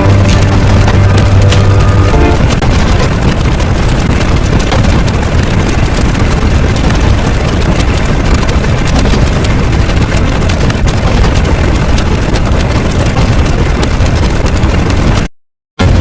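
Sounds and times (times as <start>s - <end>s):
deep rumbling noise: 0.0s - 16.0s.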